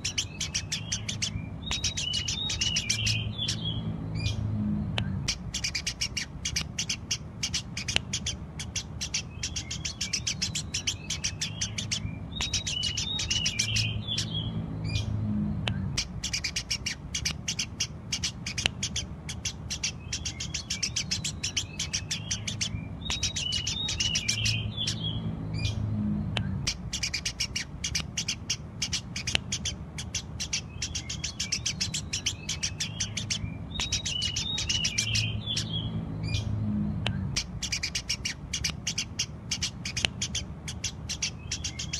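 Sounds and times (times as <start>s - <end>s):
sparrow chirping: 0.0s - 41.9s
sparrow twittering: 0.0s - 41.9s.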